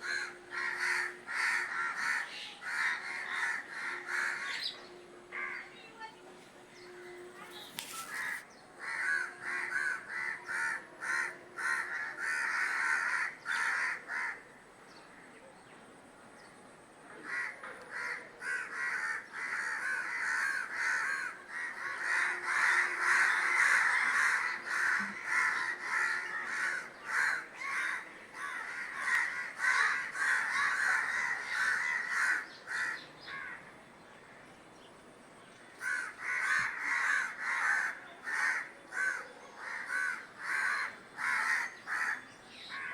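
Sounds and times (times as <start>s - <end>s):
crows cawing: 0.0s - 5.7s, 7.9s - 14.5s, 17.2s - 33.6s, 35.8s - 42.9s.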